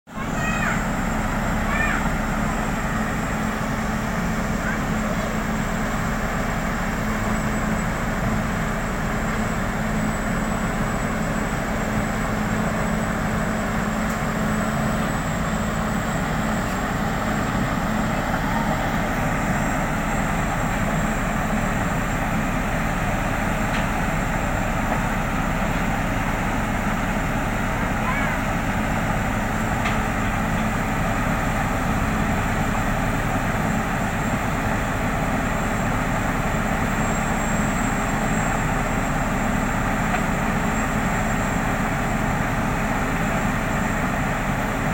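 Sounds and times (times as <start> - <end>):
heavy machinery engine running: 0.1 - 44.9.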